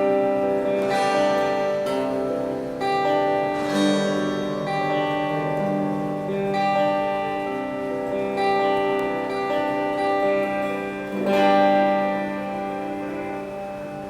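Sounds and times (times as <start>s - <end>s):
electric guitar chords strummed: 0.0s - 14.0s.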